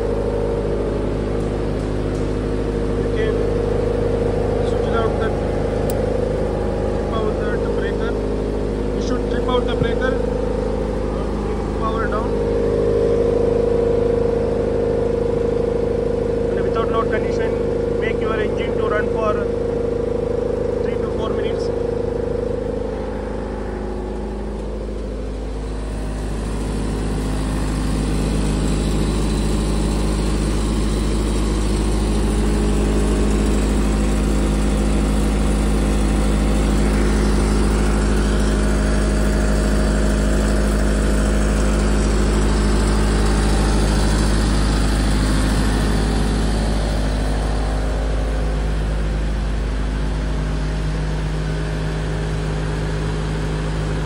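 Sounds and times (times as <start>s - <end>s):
diesel generator running: 0.0s - 54.0s.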